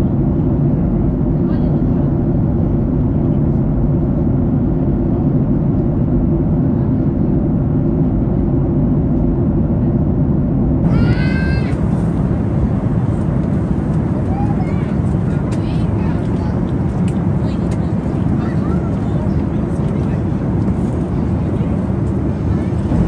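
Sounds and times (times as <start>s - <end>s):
airliner cabin engine rush: 0.0s - 23.0s.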